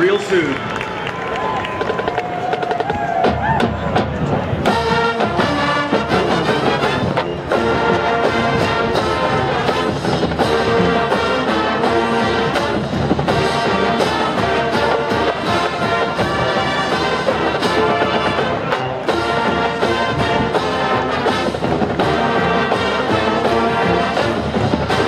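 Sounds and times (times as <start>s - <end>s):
marching band brass: 0.0s - 25.0s
steady drum beat: 1.7s - 25.0s.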